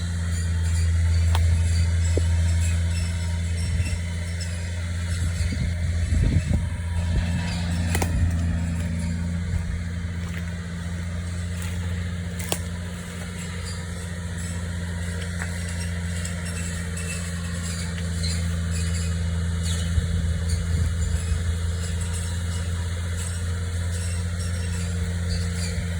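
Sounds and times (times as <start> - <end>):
machine engine humming: 0.0 - 25.9.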